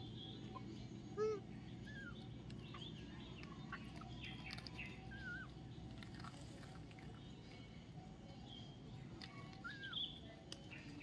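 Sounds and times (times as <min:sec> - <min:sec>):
birds chirping: 0:00.0 - 0:11.0
low background hum: 0:00.0 - 0:11.0.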